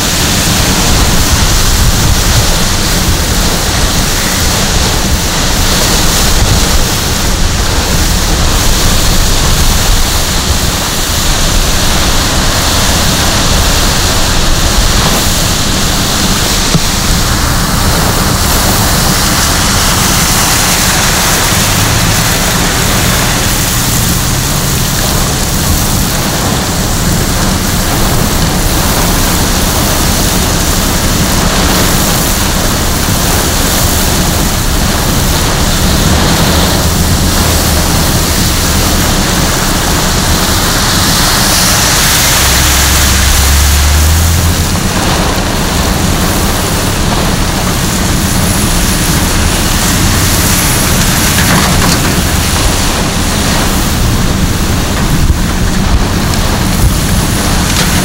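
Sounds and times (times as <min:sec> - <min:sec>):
heavy rain: 0:00.0 - 0:58.0
strong wind: 0:00.0 - 0:58.0
wind gusts buffeting microphone: 0:00.0 - 0:58.0.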